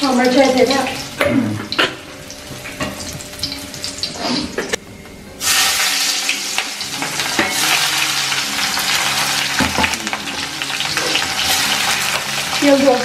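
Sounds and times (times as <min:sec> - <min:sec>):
food sizzling in hot oil: 0:00.0 - 0:04.8, 0:05.4 - 0:13.0.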